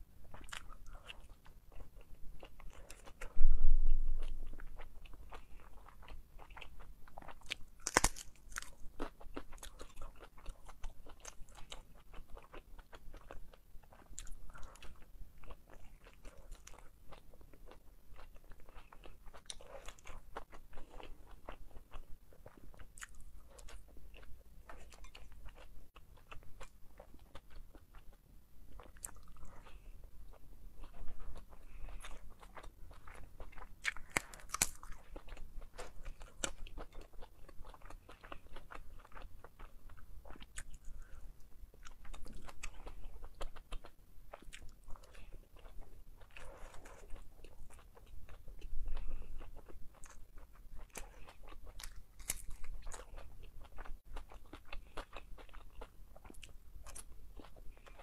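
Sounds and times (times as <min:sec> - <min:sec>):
chewing crispy food: 0:00.2 - 0:03.4, 0:04.1 - 0:58.0.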